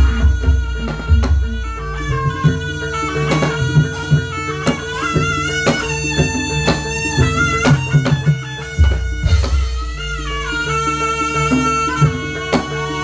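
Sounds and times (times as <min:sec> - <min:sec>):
drum strokes: 0:00.0 - 0:13.0
reedy wind instrument melody: 0:00.0 - 0:13.0.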